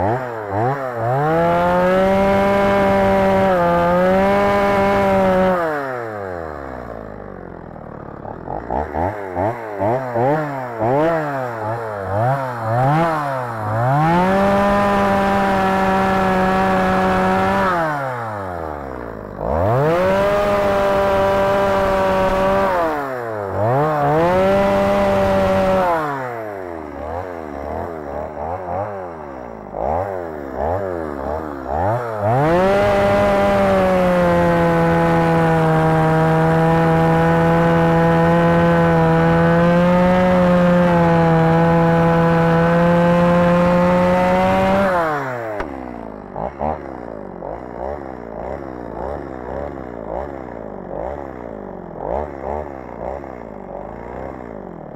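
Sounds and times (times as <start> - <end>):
chainsaw cutting: 0.0 - 54.9.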